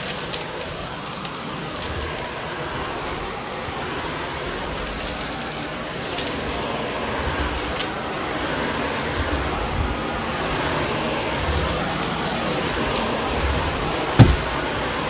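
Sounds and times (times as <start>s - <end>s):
debris crackling in vacuum: 0.0s - 15.0s
vacuum cleaner running: 0.0s - 15.0s.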